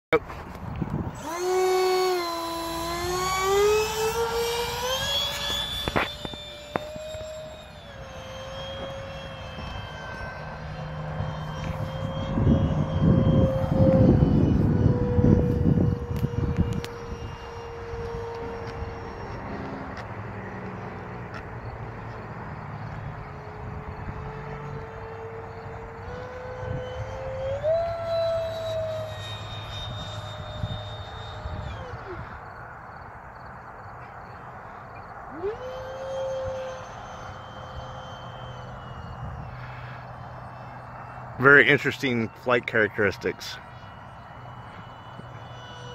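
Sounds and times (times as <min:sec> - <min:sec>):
model jet motor whine: 0:00.2 - 0:45.9.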